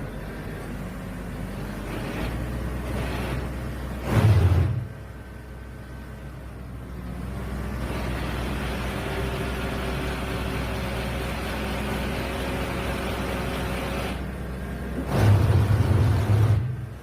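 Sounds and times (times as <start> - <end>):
excavator engine and screening bucket: 0.0 - 17.0.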